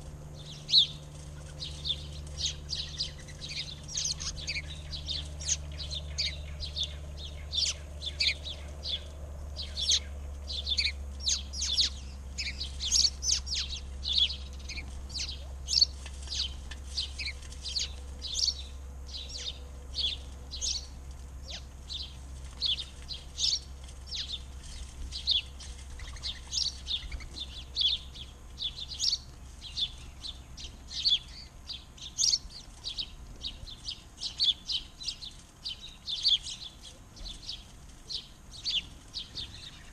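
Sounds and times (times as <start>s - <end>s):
low steady hum: 0.0s - 39.9s
small birds chirping: 0.0s - 39.9s.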